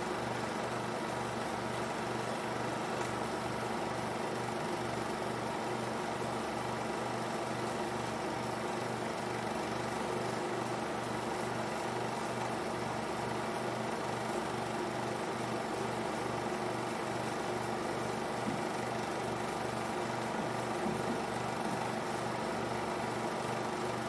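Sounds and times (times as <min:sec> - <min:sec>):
film projector whirring: 0:00.0 - 0:24.0.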